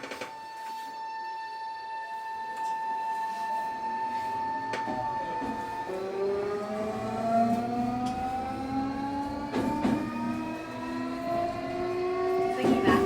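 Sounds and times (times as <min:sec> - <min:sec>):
electric train inverter whine: 0:00.0 - 0:13.0.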